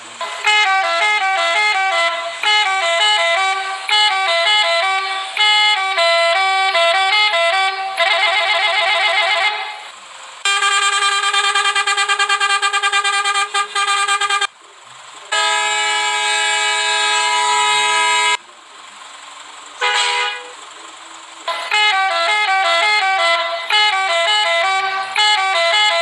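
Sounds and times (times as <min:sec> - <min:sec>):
multi-trumpet vehicle horn blasts: 0:00.1 - 0:14.6, 0:15.3 - 0:18.4, 0:19.8 - 0:20.6, 0:21.5 - 0:26.0.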